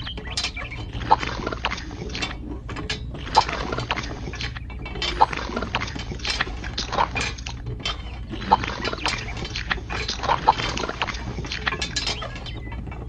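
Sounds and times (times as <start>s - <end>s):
wet concrete sloshing: 0.0s - 12.6s
clinks of grit and stones: 0.0s - 13.0s
steady low hum: 0.0s - 13.0s.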